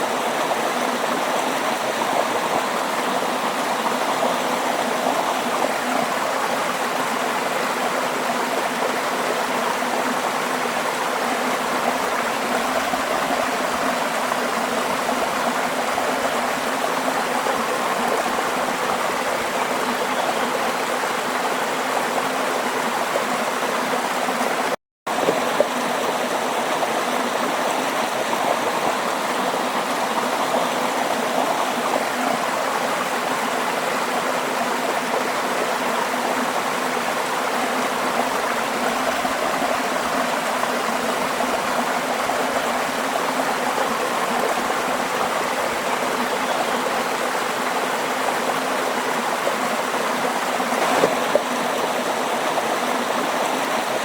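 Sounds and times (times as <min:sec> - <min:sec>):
stream water rushing and gurgling: 0:00.0 - 0:54.0.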